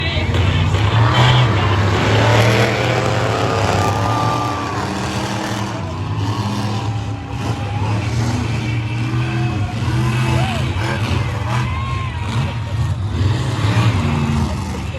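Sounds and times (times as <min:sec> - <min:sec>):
monster truck engines rumbling: 0:00.0 - 0:14.9.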